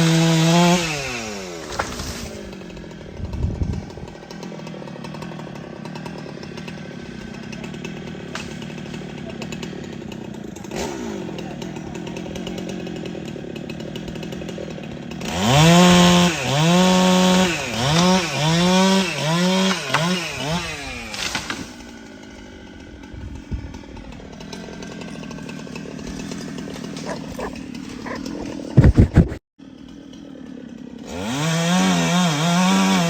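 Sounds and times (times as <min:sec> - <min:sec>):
chainsaw engine revving: 0:00.0 - 0:33.0.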